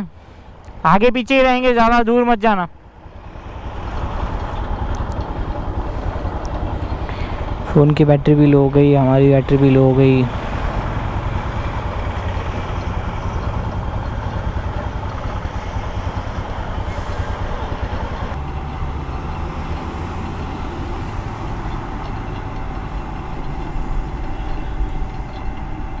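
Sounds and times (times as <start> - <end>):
road and wind noise: 0.0 - 26.0
steady whine: 0.0 - 26.0
motorcycle engine running: 2.8 - 26.0.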